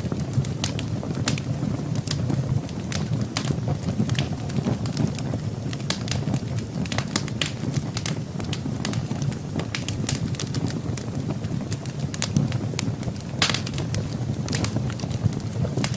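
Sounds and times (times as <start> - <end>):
low fire rumble: 0.0 - 15.9
wood fire crackling and popping: 0.0 - 15.9.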